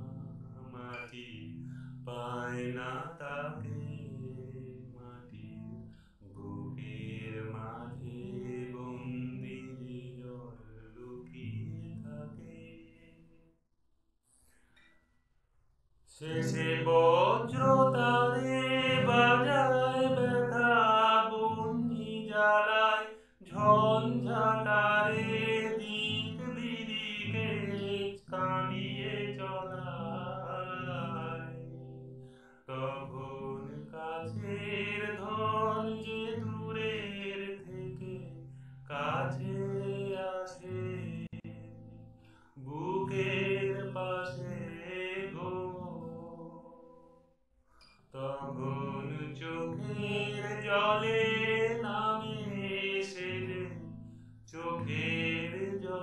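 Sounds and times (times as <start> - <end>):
man singing: 0.0 - 13.5, 16.1 - 42.0, 42.6 - 47.0, 48.1 - 56.0
strummed acoustic guitar: 0.0 - 13.5, 14.2 - 15.2, 16.0 - 56.0.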